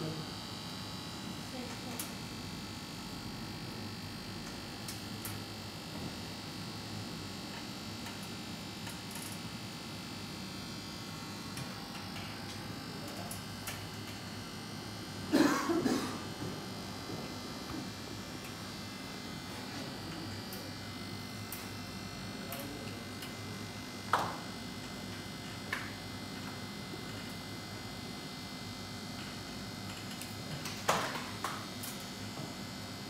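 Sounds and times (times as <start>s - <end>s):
electrical hum: 0.0s - 33.0s.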